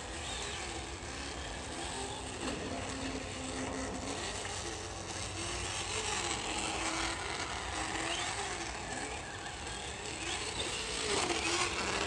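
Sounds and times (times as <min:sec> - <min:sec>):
recorded truck engine from speaker: 0:00.0 - 0:12.0.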